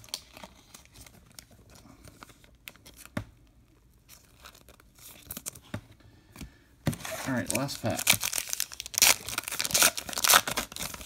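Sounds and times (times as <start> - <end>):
card stack rustling in hands: 0.0 - 11.0.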